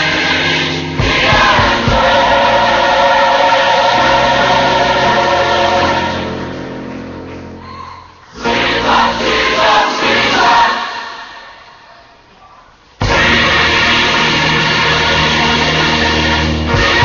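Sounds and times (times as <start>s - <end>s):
gospel choir with instruments: 0.0s - 7.6s, 8.2s - 12.3s, 13.0s - 17.0s
music: 0.0s - 7.7s, 8.3s - 11.5s, 13.0s - 17.0s.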